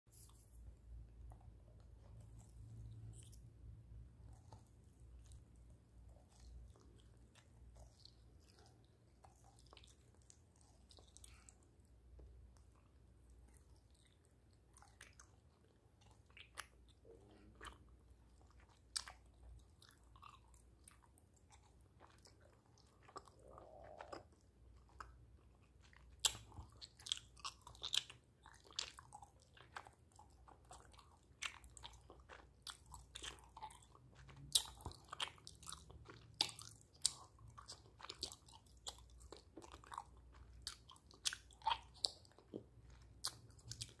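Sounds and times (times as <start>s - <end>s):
candy being chewed: 0.1s - 44.0s.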